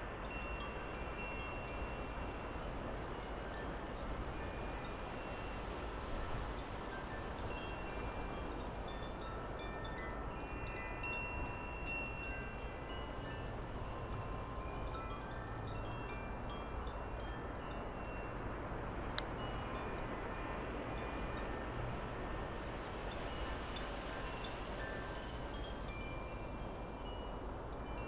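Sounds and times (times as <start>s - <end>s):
wind chimes ringing: 0.0s - 22.0s, 22.8s - 28.0s
wind hiss: 0.0s - 28.0s.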